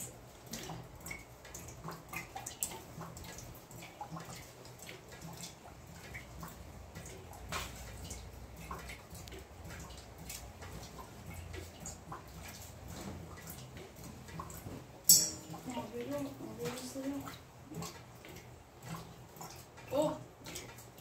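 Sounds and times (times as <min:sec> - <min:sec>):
water dripping: 0:00.0 - 0:21.0.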